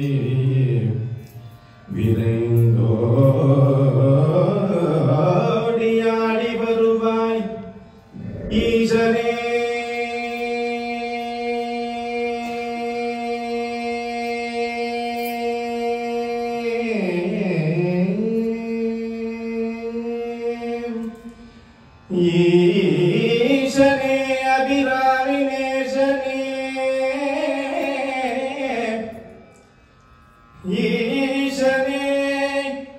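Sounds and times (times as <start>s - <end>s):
man singing into a microphone: 0.0s - 21.4s, 22.0s - 29.6s, 30.6s - 32.9s.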